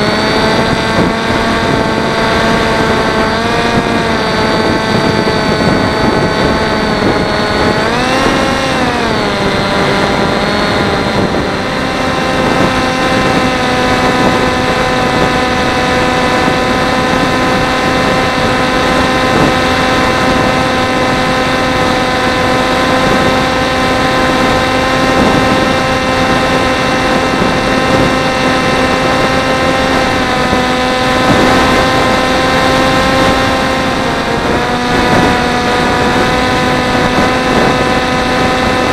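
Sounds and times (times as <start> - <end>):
electric motor and propeller whine: 0.0 - 38.9
wind rush: 0.0 - 38.9.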